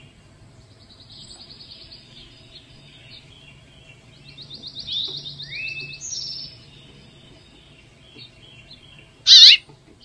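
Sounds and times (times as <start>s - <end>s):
songbirds trilling: 0.0s - 10.0s.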